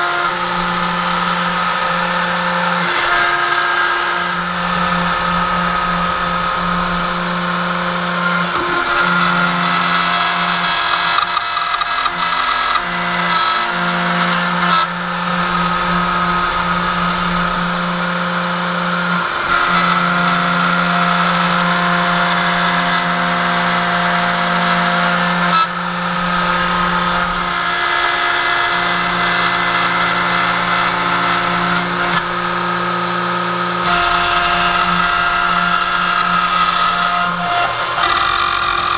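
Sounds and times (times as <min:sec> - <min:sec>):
stepper motors humming: 0:00.0 - 0:20.7, 0:25.2 - 0:38.9
router spindle cutting wood: 0:00.0 - 0:38.9.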